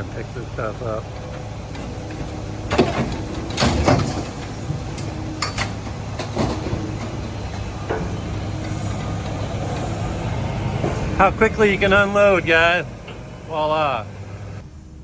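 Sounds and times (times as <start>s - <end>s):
scrap metal clanking: 0.0s - 13.5s
engine running: 0.0s - 15.0s.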